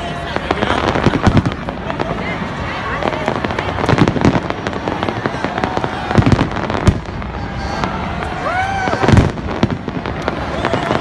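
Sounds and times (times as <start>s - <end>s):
fireworks crackling: 0.0s - 11.0s
heavy firework bangs: 0.0s - 11.0s.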